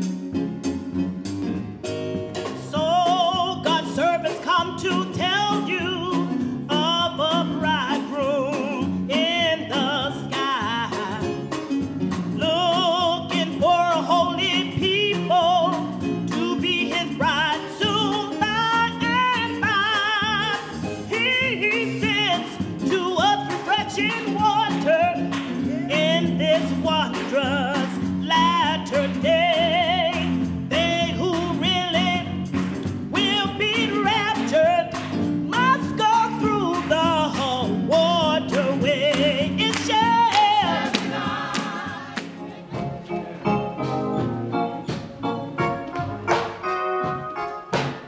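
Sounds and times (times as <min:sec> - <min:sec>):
piano accompaniment: 0:00.0 - 0:48.0
solo singer with vibrato: 0:02.6 - 0:11.6, 0:12.3 - 0:42.2.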